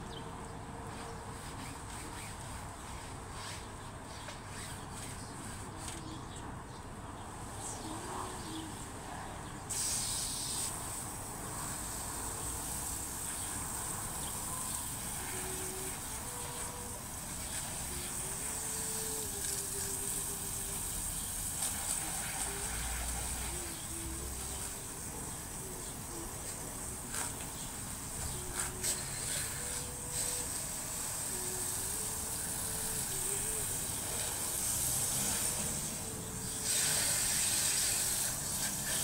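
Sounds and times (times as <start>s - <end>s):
hose water spraying on mesh: 0.9s - 6.2s, 9.7s - 39.0s.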